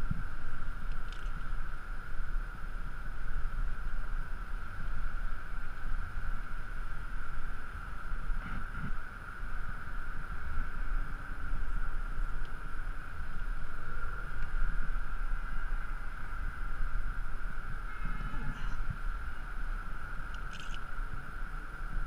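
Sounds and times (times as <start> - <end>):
thin high hum: 0.0 - 22.0
wind buffeting a microphone: 0.0 - 22.0.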